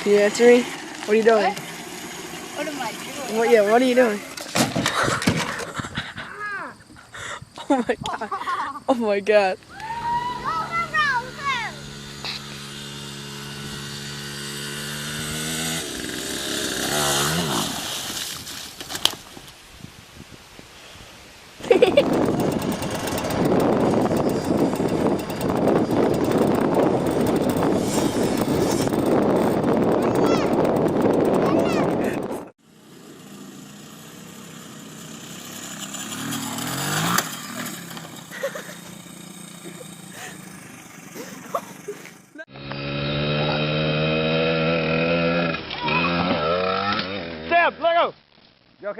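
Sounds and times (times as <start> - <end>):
dirt bike engine idling and revving: 0.0 - 5.8, 9.2 - 18.0, 21.6 - 47.8.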